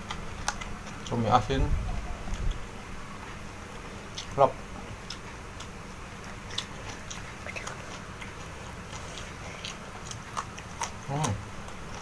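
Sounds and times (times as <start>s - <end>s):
person chewing food: 0.0s - 1.2s, 2.2s - 12.0s.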